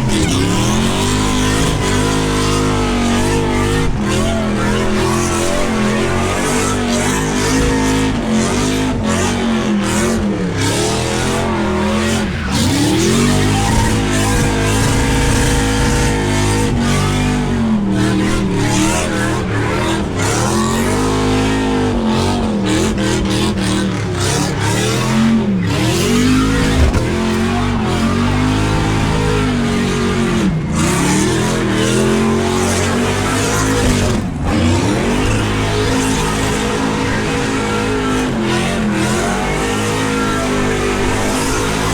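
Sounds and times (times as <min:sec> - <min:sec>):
car engine revving hard: 0:00.0 - 0:41.9.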